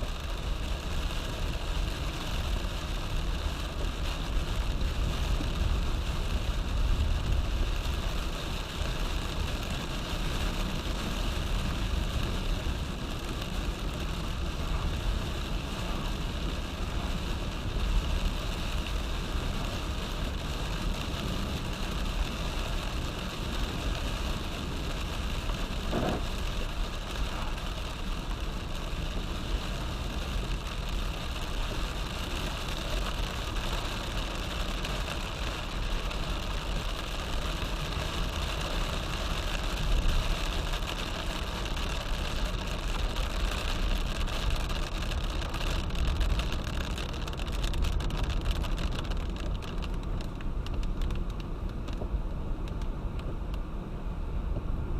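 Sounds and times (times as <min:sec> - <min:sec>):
rain hissing: 0:00.0 - 0:52.0
road and engine rumble: 0:00.0 - 0:54.9.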